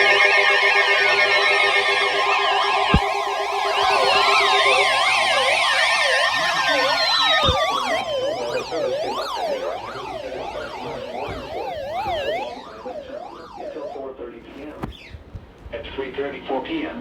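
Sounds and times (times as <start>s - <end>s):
high alert tone: 0.0s - 15.0s
siren wails sweeping: 0.0s - 15.3s.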